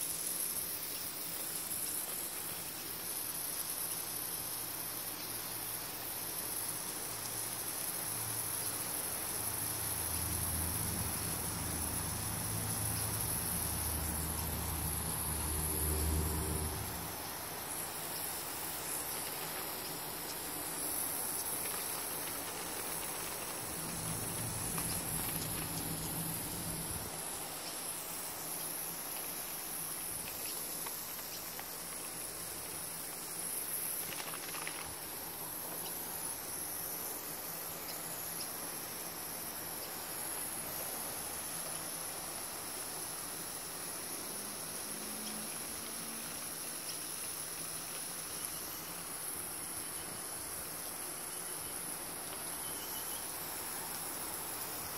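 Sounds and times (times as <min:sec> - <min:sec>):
high-pitched hiss: 0:00.0 - 0:54.9.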